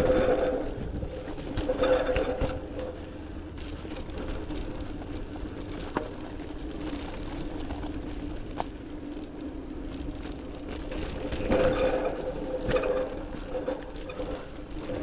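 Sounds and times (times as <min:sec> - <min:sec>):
bike tyres rolling on dirt: 0:00.0 - 0:15.0.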